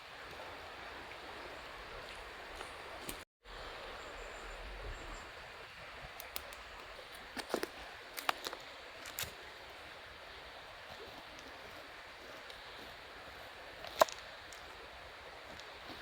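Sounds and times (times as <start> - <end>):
campfire hissing: 0.0 - 16.0.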